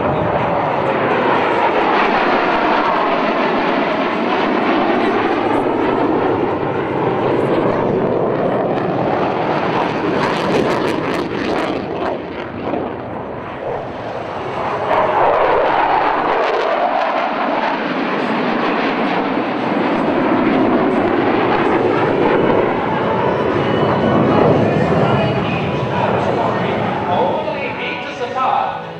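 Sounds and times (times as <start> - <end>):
jet engines roaring: 0.0 - 28.9.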